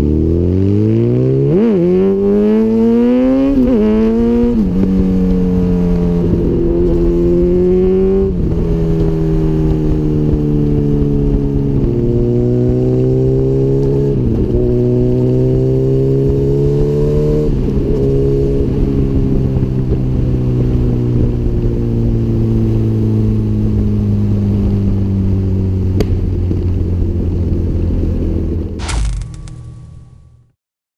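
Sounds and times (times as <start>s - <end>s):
motorcycle engine accelerating: 0.0s - 29.7s.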